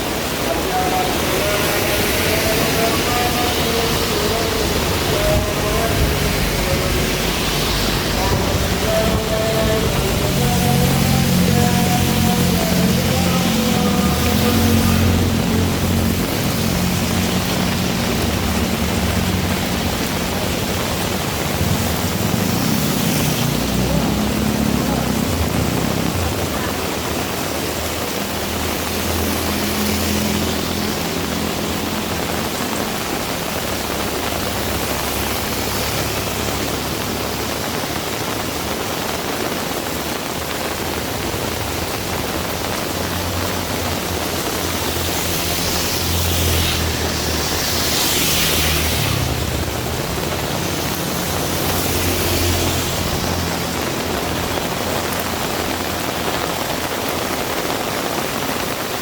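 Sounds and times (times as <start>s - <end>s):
heavy rain pouring: 0.0s - 59.0s
traffic rumble: 0.0s - 59.0s.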